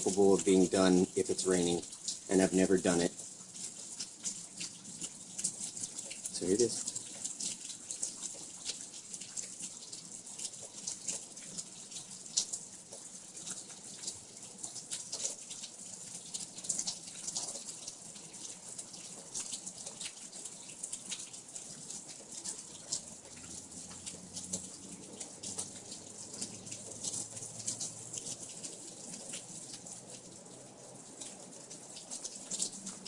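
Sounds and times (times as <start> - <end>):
rain drops pattering: 0.0 - 33.0.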